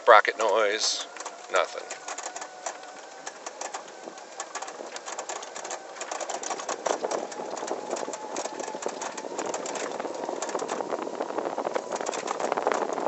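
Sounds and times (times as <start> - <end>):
chassis rattles and clicks: 0.0 - 13.0
electric motor whine: 0.3 - 13.0.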